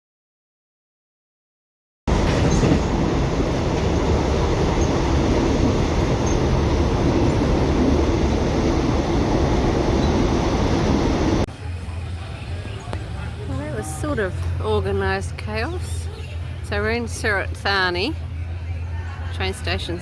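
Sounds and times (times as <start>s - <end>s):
train rumbling on rails: 2.1s - 20.0s.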